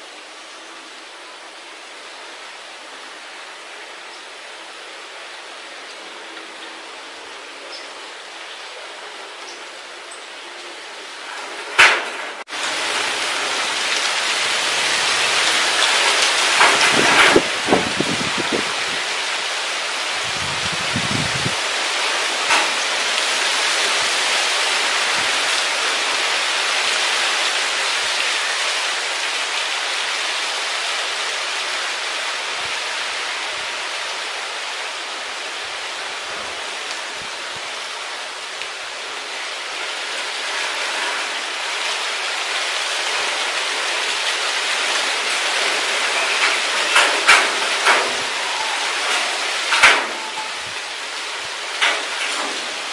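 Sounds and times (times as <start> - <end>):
wind rustling tree foliage: 0.0 - 52.9.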